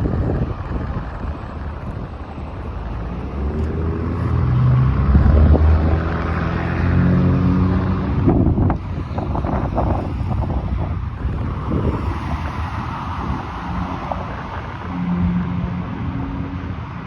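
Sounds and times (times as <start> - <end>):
fire truck diesel engine: 0.0 - 17.0.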